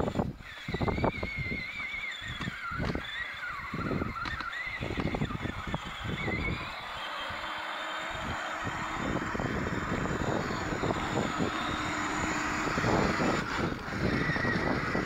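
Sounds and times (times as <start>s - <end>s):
electric motors whining: 0.0s - 15.0s
wind rumble on microphone: 0.0s - 15.0s.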